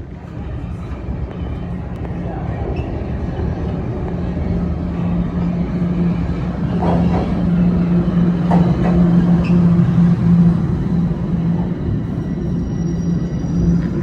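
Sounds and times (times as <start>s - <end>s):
subway train hum and rumble: 0.0s - 14.0s.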